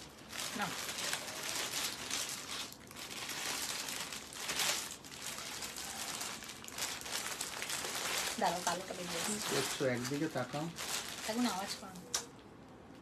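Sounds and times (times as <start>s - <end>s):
fabric rustling and crinkling: 0.0s - 12.1s.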